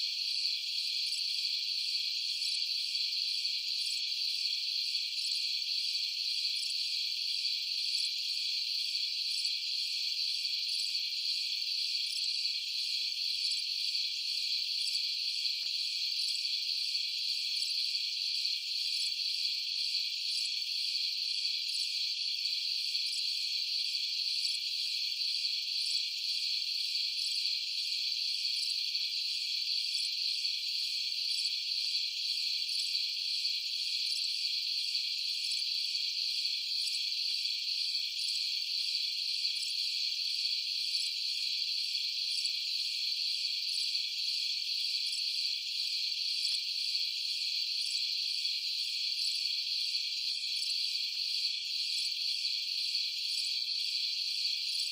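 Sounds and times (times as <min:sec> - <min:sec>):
crickets trilling: 0:00.1 - 0:54.9.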